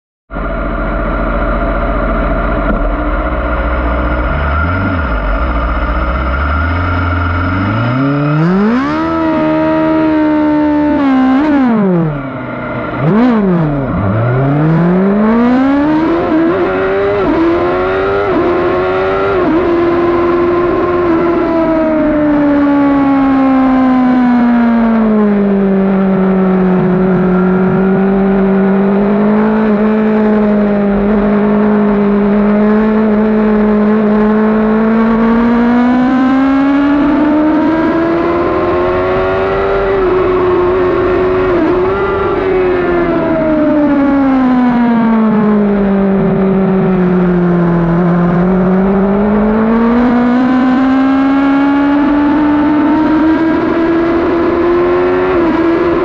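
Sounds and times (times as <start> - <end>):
motorcycle engine revving: 0.3 - 56.0.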